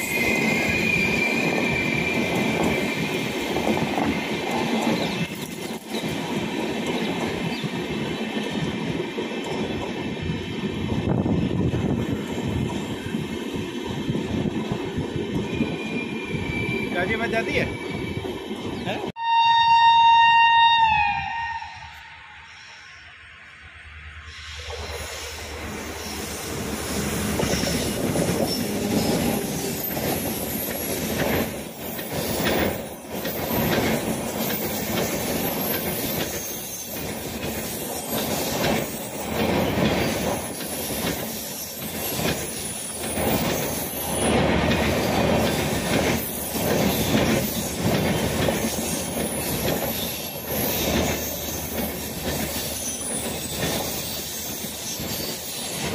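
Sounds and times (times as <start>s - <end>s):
train coaches rolling: 0.0s - 19.1s, 21.6s - 55.9s.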